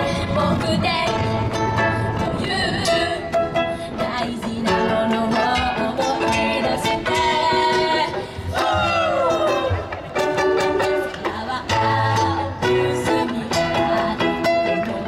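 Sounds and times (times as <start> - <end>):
woman singing into microphone: 0.0 - 10.1, 10.8 - 15.0
ukuleles strumming chords: 0.0 - 15.0.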